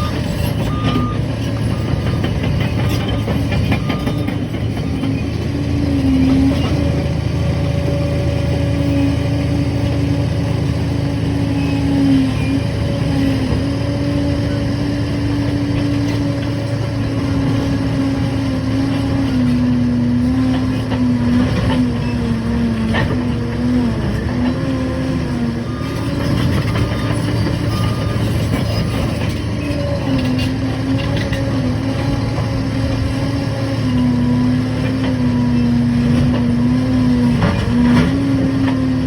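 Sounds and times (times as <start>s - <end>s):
dozer diesel engine running: 0.0s - 39.0s.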